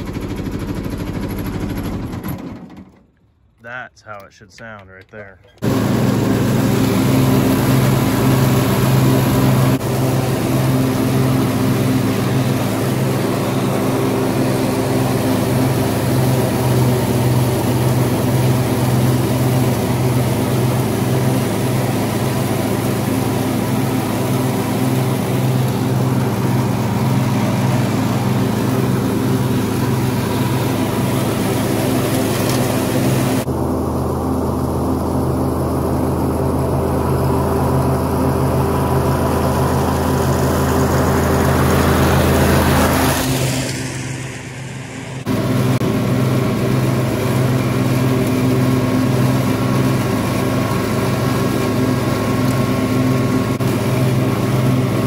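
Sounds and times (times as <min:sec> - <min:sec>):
mower blades blowing leaves: 0:00.0 - 0:03.6, 0:04.7 - 0:55.0
diesel mower engine running: 0:00.0 - 0:55.0.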